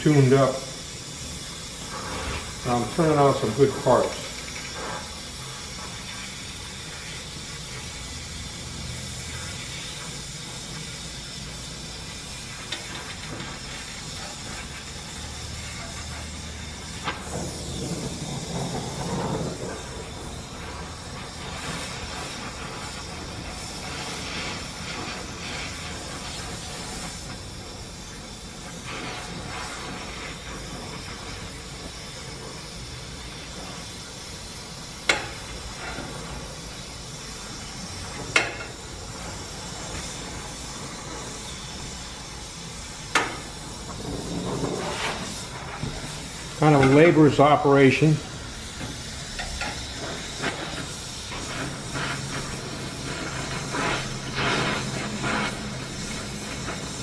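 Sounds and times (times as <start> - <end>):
gas torch flame hissing: 0.0 - 57.0.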